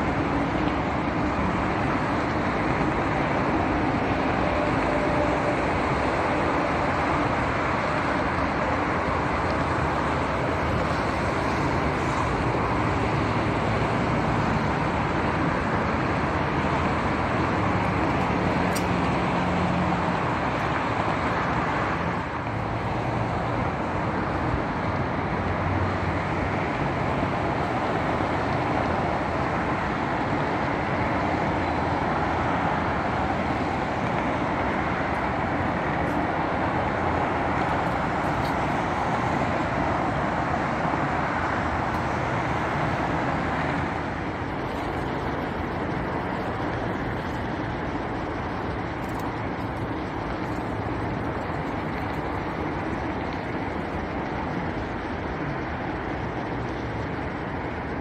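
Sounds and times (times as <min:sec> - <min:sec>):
highway traffic: 0:00.0 - 0:58.0.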